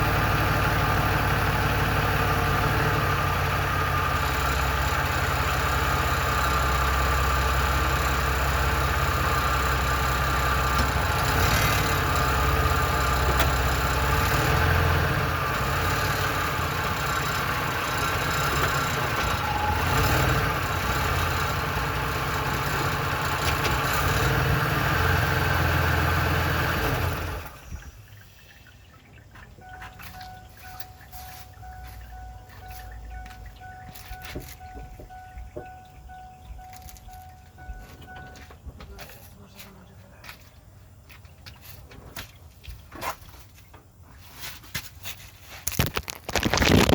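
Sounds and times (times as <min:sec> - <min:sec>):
truck engine idling with rattle: 0:00.0 - 0:46.9.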